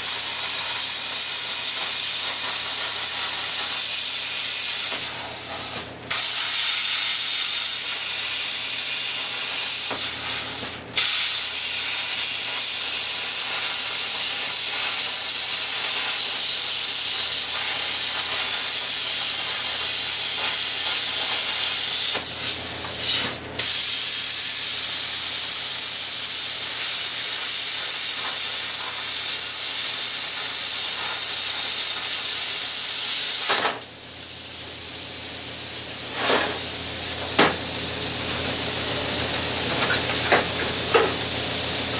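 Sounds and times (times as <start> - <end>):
plasma cutter hissing: 0.0 - 41.9.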